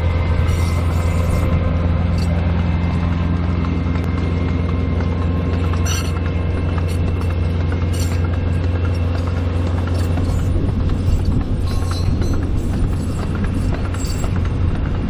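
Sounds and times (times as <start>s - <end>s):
diesel locomotive engine running: 0.0s - 15.0s
light clicks and knocks from train: 0.0s - 15.0s.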